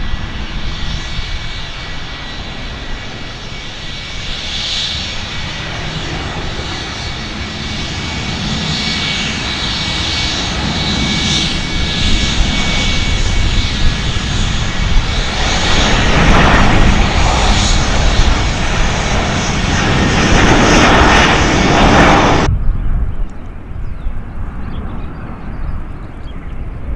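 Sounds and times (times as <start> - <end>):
airplane engine whine and rumble: 0.0 - 26.9.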